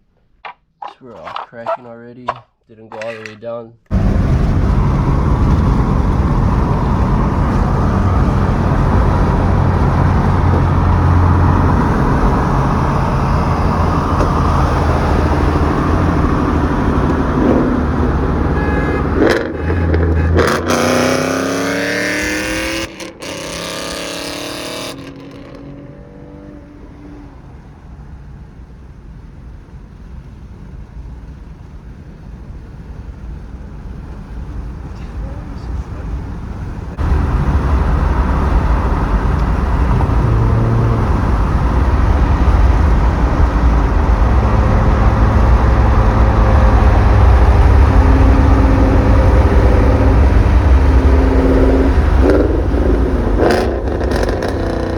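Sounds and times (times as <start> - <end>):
road noise: 0.1 - 54.9
car engine accelerating: 3.9 - 31.4, 33.0 - 54.9.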